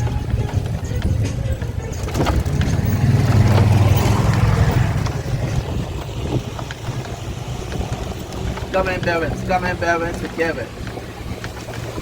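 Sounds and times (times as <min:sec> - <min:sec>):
tram rumbling: 0:00.0 - 0:12.0
wind buffeting microphone: 0:00.0 - 0:12.0.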